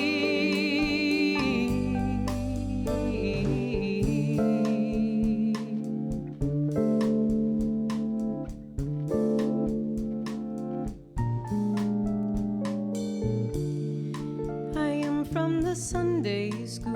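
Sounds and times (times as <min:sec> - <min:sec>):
live band playing a slow ballad: 0:00.0 - 0:16.9.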